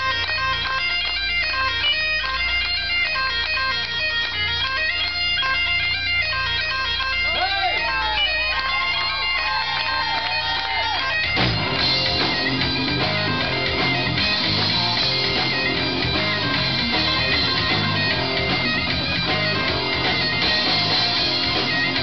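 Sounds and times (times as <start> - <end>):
bagpipes playing melody: 0.0 - 22.0
rock band playing: 0.0 - 22.0.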